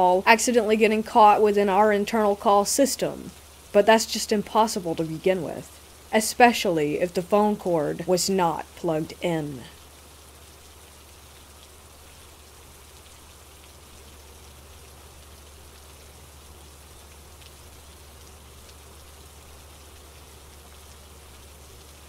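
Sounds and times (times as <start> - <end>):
raindrop ticks: 0.0 - 22.0
steady rain: 0.0 - 22.0.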